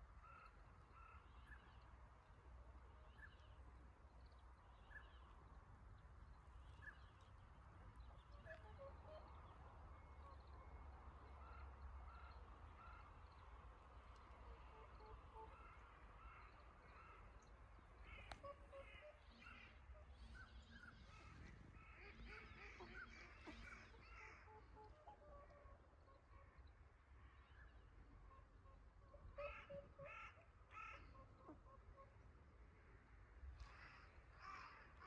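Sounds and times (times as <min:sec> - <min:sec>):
ducks and waterfowl calling: 0:06.6 - 0:35.0.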